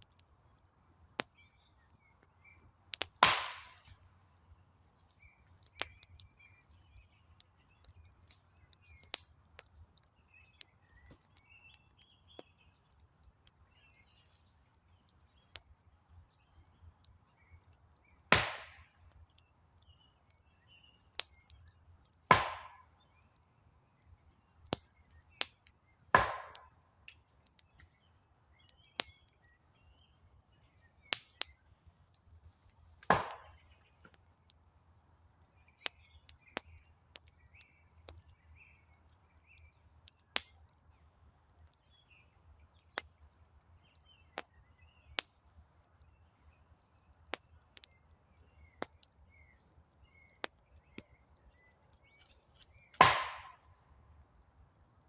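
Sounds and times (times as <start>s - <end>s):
campfire crackling: 0.0s - 55.0s
faint birds chirping: 0.0s - 55.0s.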